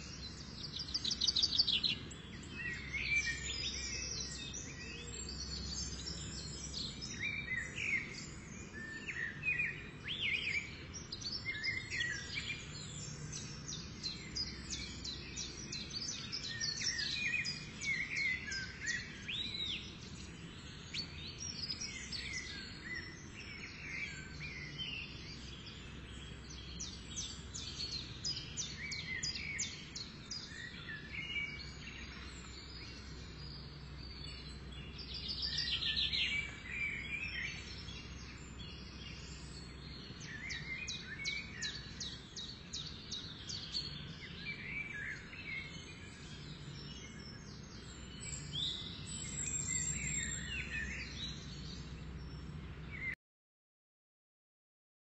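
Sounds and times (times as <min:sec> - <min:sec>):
small birds chirping: 0:00.0 - 0:53.2.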